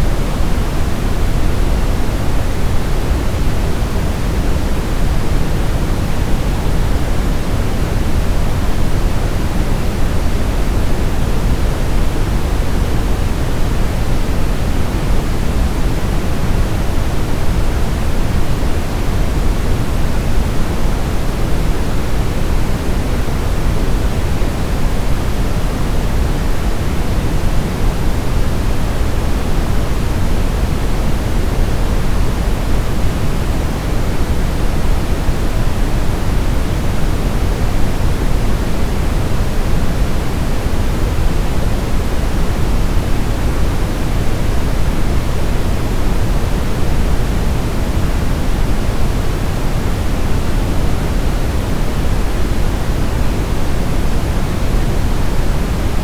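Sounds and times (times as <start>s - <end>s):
low pink noise hiss: 0.0s - 56.0s.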